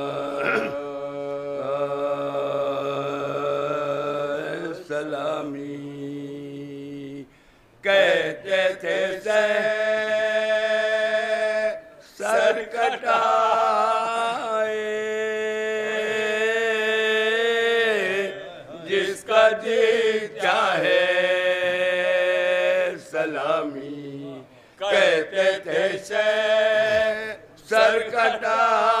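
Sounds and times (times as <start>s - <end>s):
men singing a lament: 0.0s - 29.0s.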